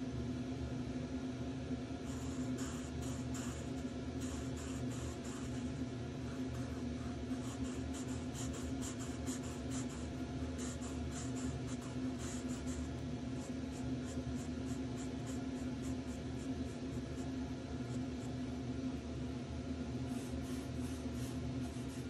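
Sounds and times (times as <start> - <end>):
steady low hum: 0.0 - 22.0
marker pen scratching on paper: 2.1 - 18.3, 20.1 - 22.0.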